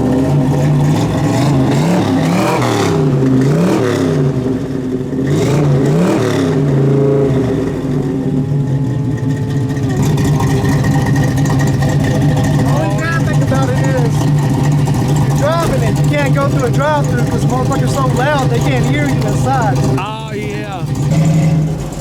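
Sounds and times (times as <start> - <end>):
car engine revving and idling: 0.0 - 22.0.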